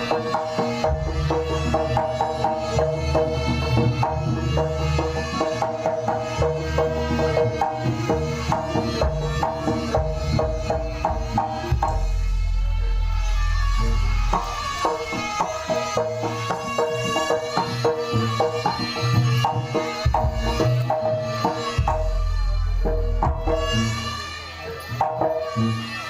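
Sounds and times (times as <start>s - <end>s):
rapid drum strokes: 0.0s - 25.6s.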